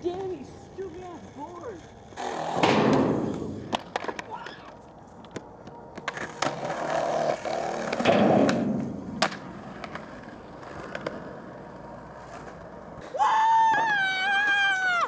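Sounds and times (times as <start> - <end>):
skateboard clacks: 0.0 - 14.9
faint background noise: 0.0 - 15.0
skateboard wheels rolling: 0.0 - 15.0.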